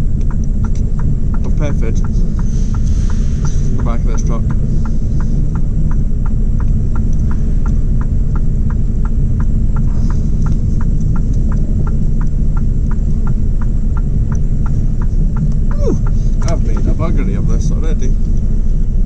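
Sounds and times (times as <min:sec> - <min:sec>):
diesel truck engine rumbling: 0:00.0 - 0:19.0
light even ticking: 0:00.0 - 0:19.0.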